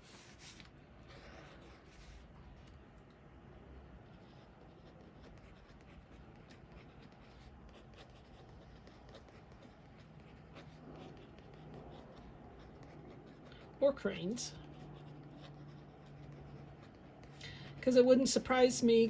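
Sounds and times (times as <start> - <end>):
pen scratching on paper: 0.0 - 2.8, 3.8 - 18.2.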